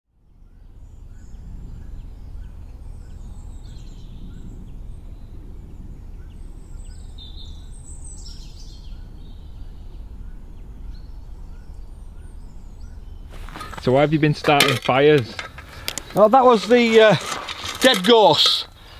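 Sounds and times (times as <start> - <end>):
steady low rumble: 0.1 - 18.9
small birds chirping: 0.3 - 18.9.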